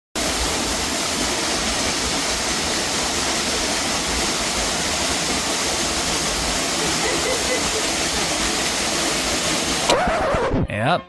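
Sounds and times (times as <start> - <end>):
waterfall rushing: 0.2 - 10.0.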